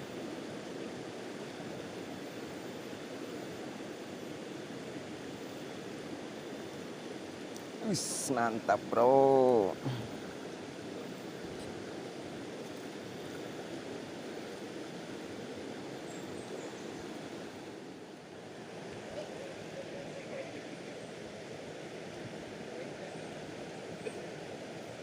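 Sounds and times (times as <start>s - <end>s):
river current rushing: 0.0s - 25.0s.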